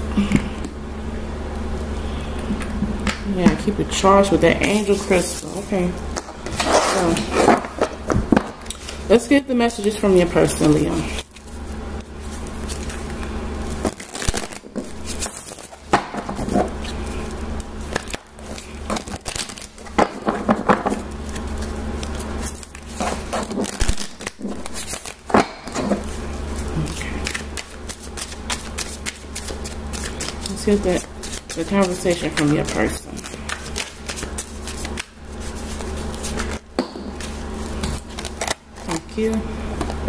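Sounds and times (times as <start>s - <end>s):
cards being shuffled: 2.4s - 40.0s.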